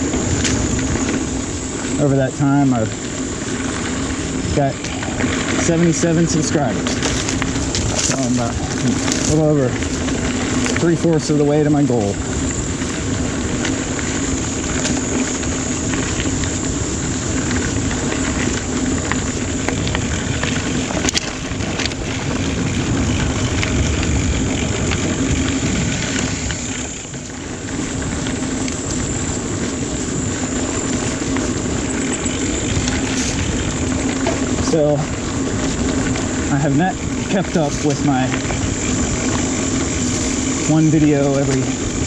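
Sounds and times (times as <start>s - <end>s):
bike tyre noise on dirt: 0.0s - 42.0s.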